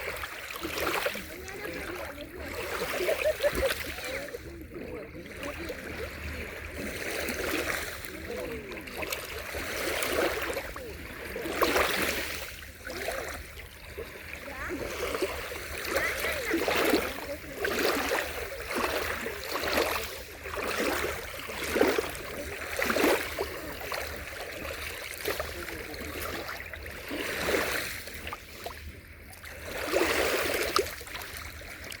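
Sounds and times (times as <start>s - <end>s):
waves washing onto shore: 0.0s - 32.0s.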